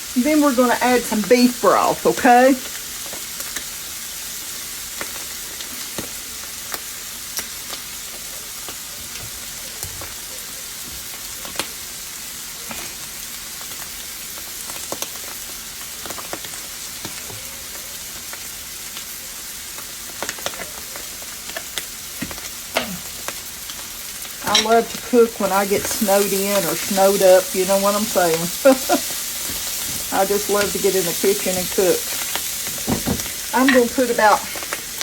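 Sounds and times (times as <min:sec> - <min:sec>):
vegetables sizzling in a skillet: 0:00.0 - 0:35.0.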